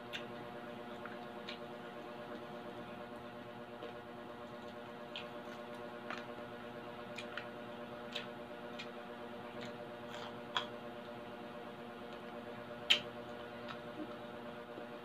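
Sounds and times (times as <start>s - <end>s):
chewing crispy pork: 0.0s - 15.0s.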